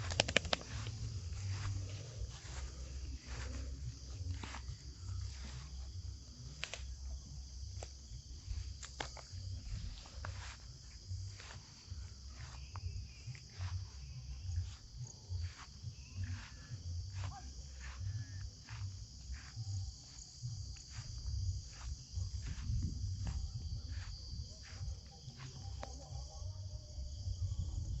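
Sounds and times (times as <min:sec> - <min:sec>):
continuous low rumble: 0:00.0 - 0:28.0
crickets chirping: 0:00.0 - 0:28.0.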